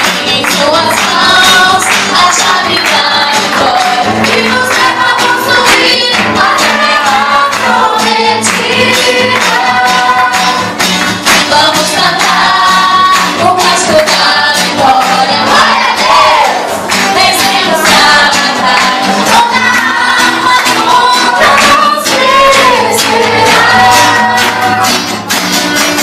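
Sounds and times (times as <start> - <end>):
woman singing into microphone: 0.0 - 10.6, 11.3 - 16.5, 17.1 - 25.0.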